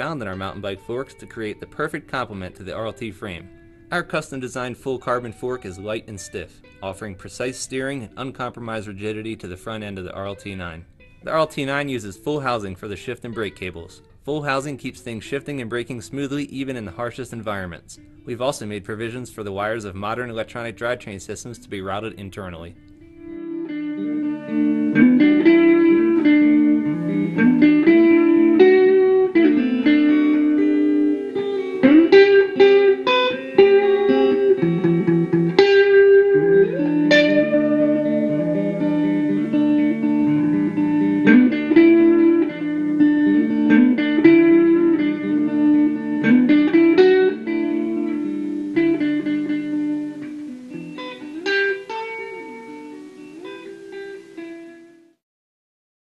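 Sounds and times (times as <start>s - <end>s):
guitar background music: 0.0s - 55.2s.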